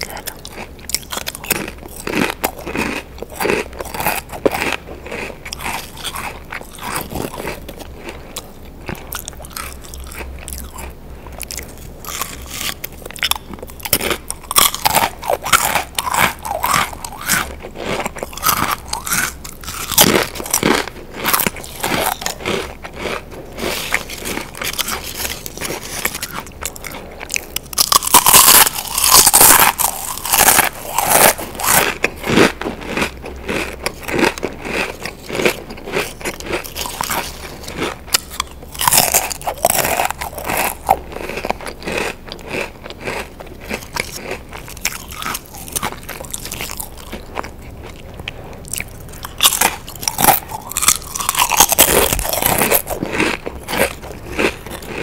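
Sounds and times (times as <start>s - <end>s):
chewing and crunching chips: 0.0s - 55.0s.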